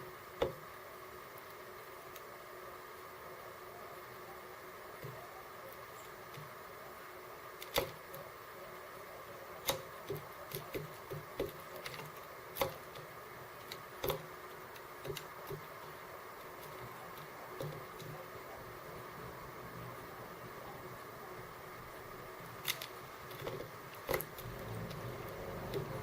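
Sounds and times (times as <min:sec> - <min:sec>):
birds pecking at seeds: 0:00.0 - 0:26.0
steady low hiss: 0:00.0 - 0:26.0.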